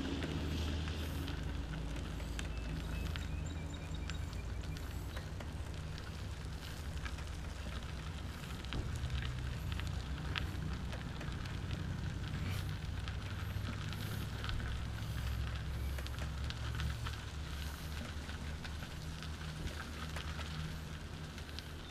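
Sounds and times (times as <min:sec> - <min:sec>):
trike tyres rolling on gravel: 0:00.0 - 0:21.9.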